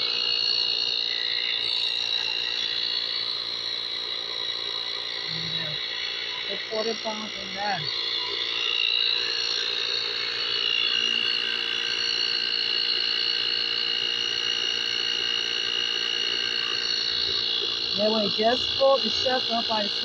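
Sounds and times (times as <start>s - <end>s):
tire inflator buzzing whine: 0.0s - 20.0s.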